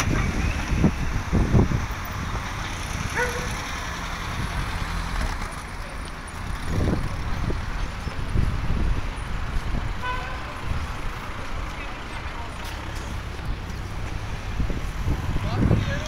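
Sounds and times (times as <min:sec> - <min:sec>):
rumble of passing vehicles: 0:00.0 - 0:16.0.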